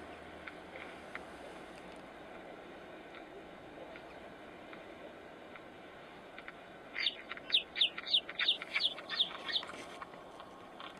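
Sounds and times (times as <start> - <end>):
faint background hiss: 0.0 - 10.9.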